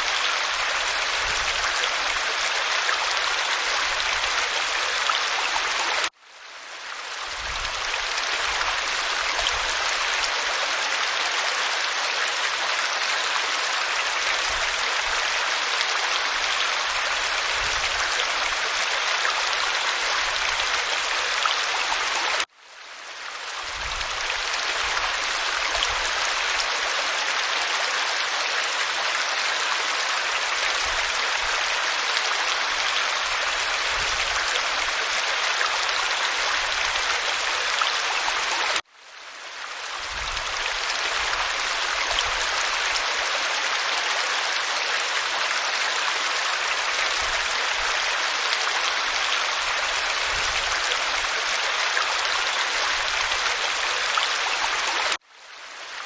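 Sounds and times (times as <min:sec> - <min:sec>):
waterfall pouring over rock: 0:00.0 - 0:06.2, 0:06.8 - 0:22.5, 0:23.1 - 0:38.9, 0:39.5 - 0:55.2.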